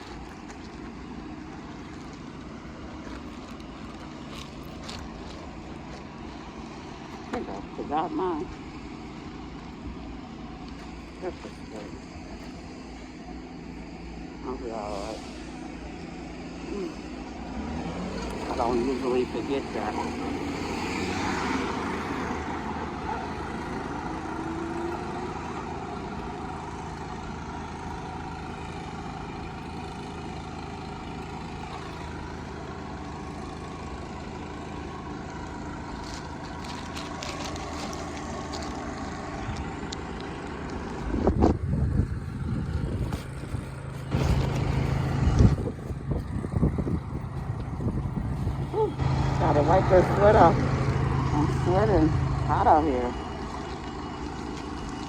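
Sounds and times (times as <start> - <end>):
rumble of passing vehicles: 0.0 - 55.0.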